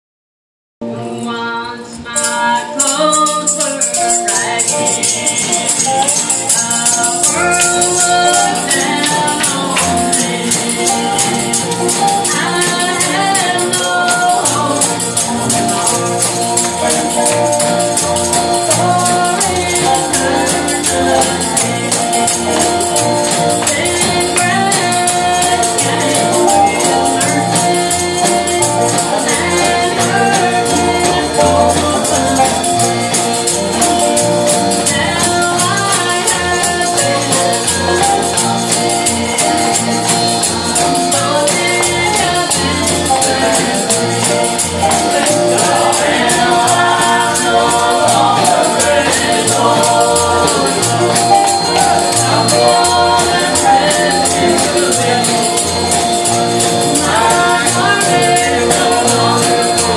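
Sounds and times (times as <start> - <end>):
people singing: 0.9 - 59.9
held chords: 2.2 - 59.9
tambourine shaking: 2.2 - 59.9.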